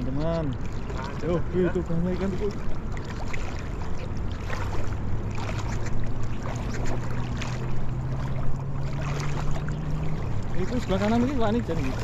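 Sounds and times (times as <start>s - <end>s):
low engine hum: 0.0s - 12.0s
wading through shallow water: 0.0s - 12.0s.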